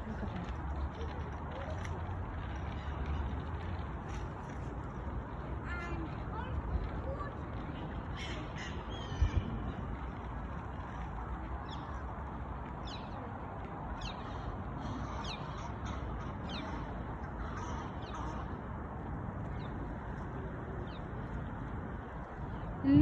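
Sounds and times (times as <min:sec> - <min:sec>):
steady outdoor rushing noise: 0:00.0 - 0:23.0.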